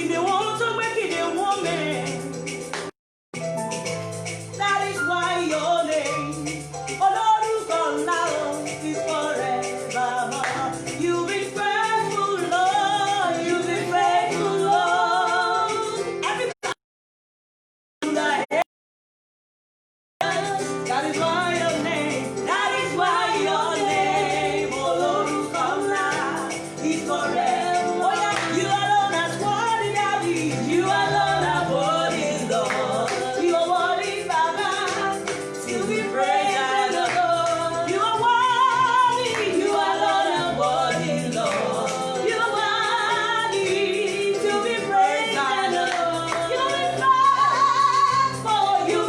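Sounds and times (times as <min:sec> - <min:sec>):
person singing gospel song: 0:05.7 - 0:16.6, 0:20.2 - 0:49.0.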